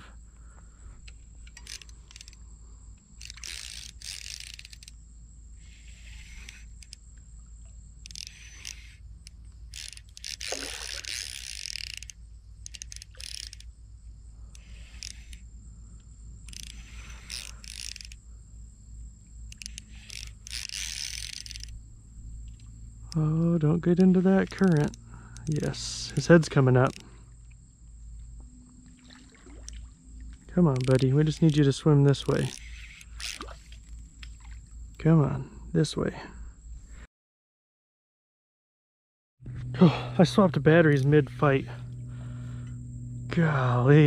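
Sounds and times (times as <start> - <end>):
fishing reel drag clicking: 0.4 - 13.8, 14.5 - 18.3, 18.9 - 34.8, 39.5 - 44.0.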